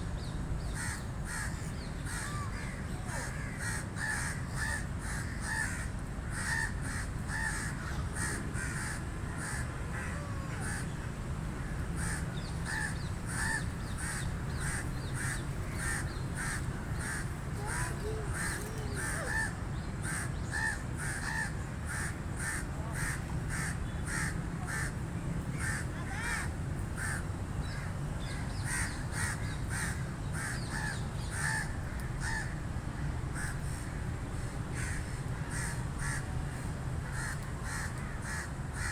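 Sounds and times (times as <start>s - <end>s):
crows cawing: 0.8s - 10.9s, 11.6s - 25.0s, 25.6s - 38.9s.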